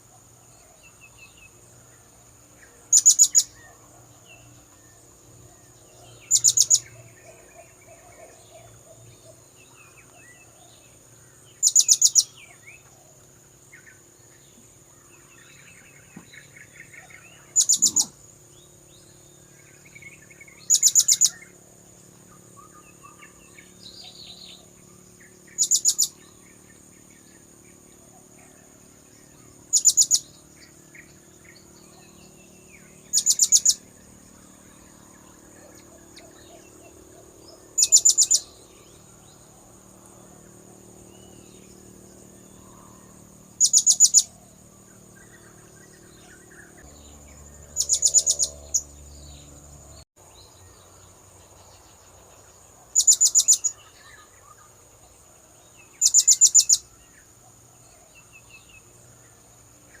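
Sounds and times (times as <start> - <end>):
other birds calling: 0.0 - 39.4, 40.2 - 50.0.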